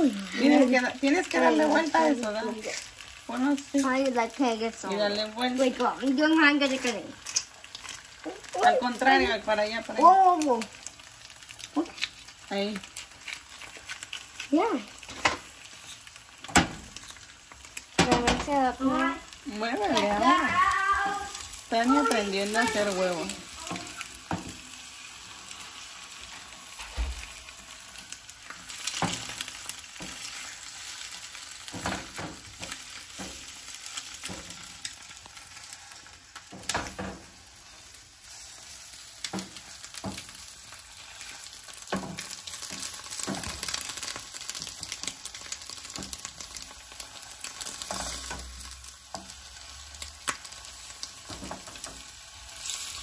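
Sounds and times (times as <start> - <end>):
eggs sizzling in oil: 0.0 - 53.0.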